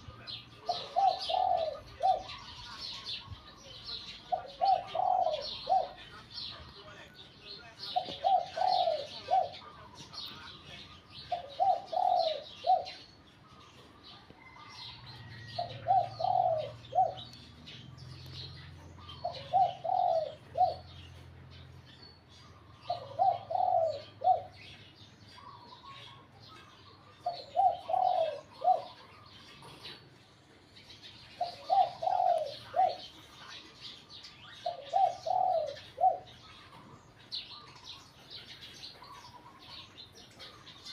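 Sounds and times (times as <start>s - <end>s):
dove cooing: 0.0s - 6.1s, 7.8s - 10.2s, 10.8s - 21.6s, 22.2s - 30.2s, 31.3s - 40.9s
small birds chirping: 0.0s - 40.9s.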